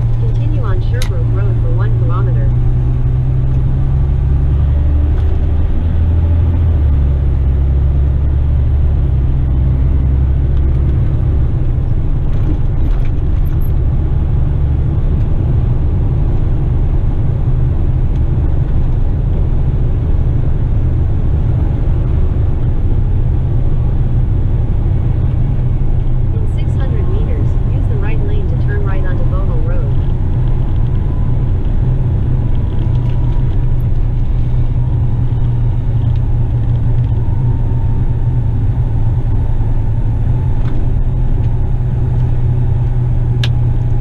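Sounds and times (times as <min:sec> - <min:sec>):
truck diesel engine droning: 0:00.0 - 0:44.0.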